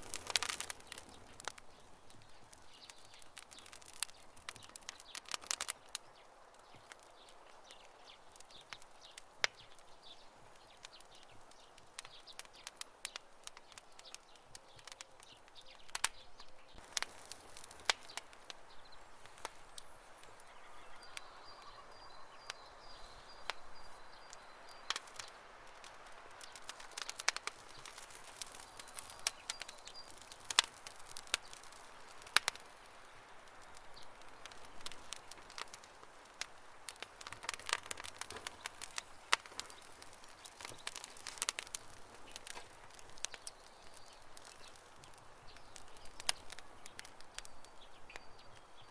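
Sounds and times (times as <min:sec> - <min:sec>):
campfire crackling: 0:00.0 - 0:48.9.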